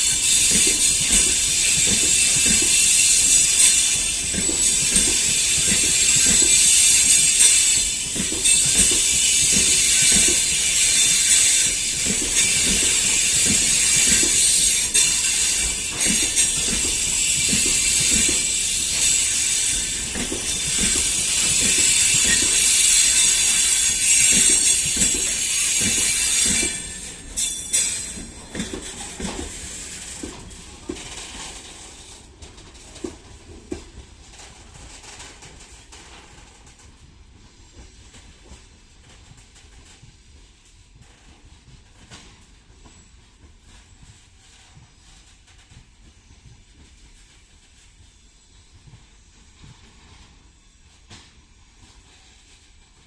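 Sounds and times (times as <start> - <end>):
train wheels clicking over rail joints: 0.0 - 53.0.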